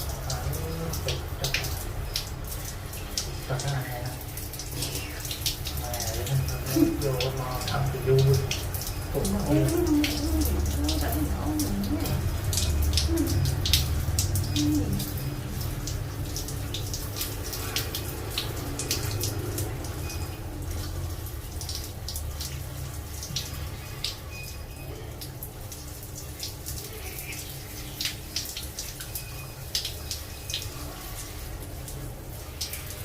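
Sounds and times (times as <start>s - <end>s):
small drips and clicks: 0.0s - 33.0s
water splashing at a sink: 0.0s - 33.0s.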